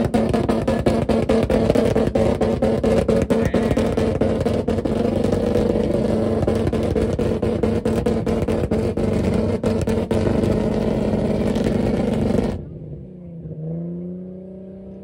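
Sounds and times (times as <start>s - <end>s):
exhaust pops and crackles: 0.0s - 12.7s
car engine at high revs: 0.0s - 15.0s.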